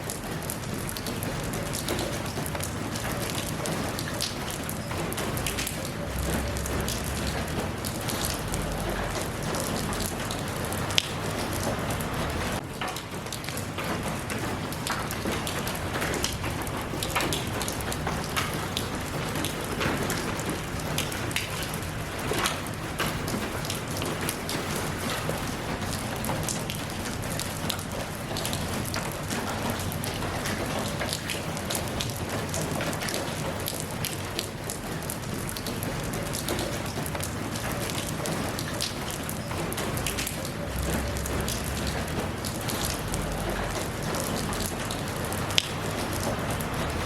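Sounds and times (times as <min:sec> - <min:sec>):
raindrops tapping close by: 0:00.0 - 0:47.0
steady rain: 0:00.0 - 0:47.0.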